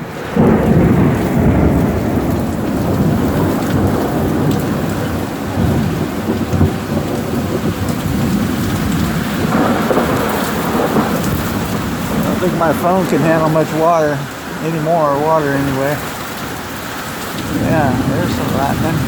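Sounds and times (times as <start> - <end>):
gusting wind: 0.0 - 19.0
heavy rain: 0.0 - 19.0.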